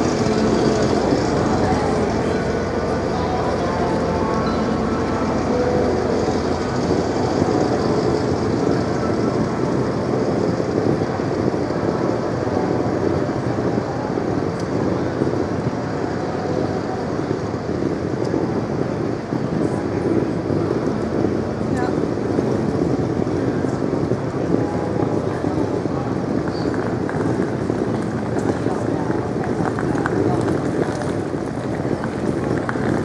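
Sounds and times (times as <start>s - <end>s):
din of people: 0.0s - 33.0s
distant traffic: 0.0s - 33.0s.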